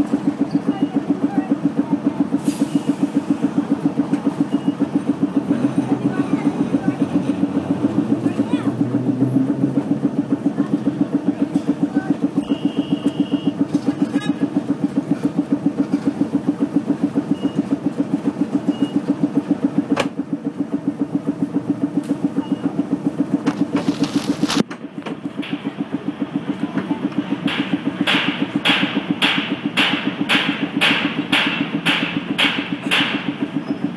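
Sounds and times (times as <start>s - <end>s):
streetcar machinery chugging: 0.0s - 33.9s.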